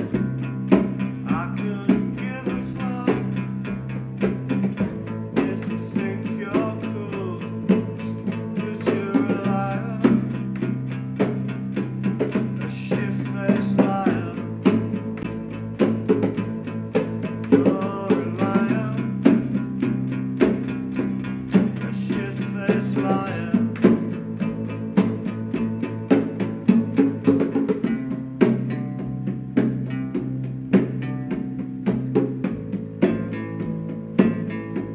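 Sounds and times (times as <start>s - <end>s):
rock band music: 0.0s - 34.9s.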